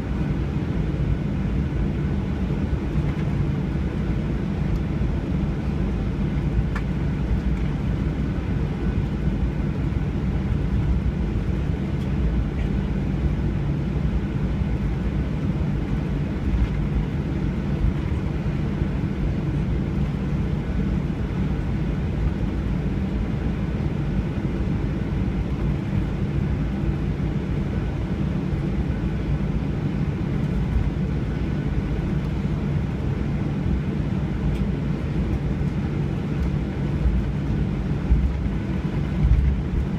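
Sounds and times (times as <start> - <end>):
faint steady whine: 0.0 - 39.9
jet engines droning: 0.0 - 39.9.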